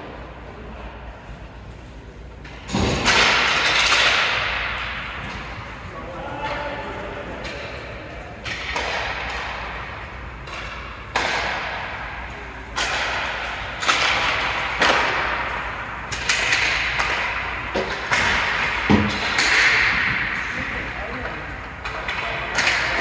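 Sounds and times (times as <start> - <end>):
hockey sticks and puck knocks: 2.4 - 20.8, 21.6 - 23.0.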